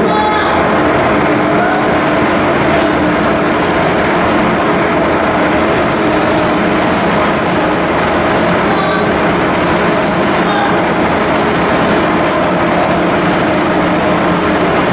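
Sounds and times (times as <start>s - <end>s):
ship diesel engine running: 0.0s - 14.9s.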